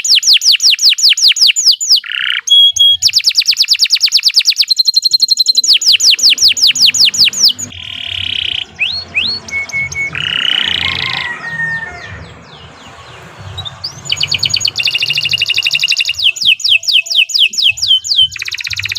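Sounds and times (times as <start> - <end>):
canary singing: 0.0 - 18.9.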